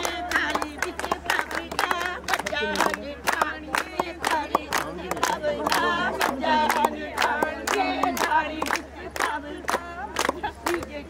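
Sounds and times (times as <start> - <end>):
group singing in unison: 0.0 - 11.0
hand clapping: 0.0 - 11.0.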